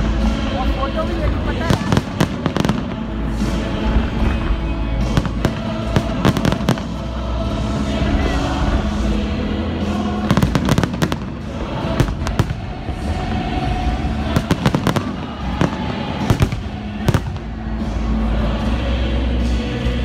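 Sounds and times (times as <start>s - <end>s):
music with long held notes: 0.0s - 20.0s.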